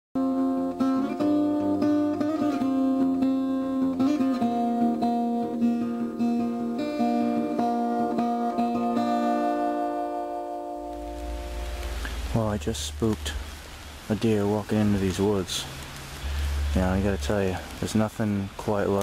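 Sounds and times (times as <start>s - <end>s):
acoustic guitar melody: 0.2s - 19.0s.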